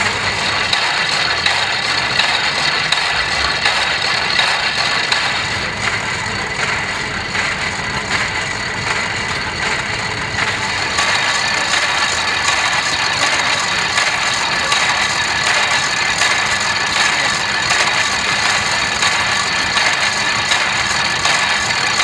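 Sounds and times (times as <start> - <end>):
generator running: 0.0 - 22.0.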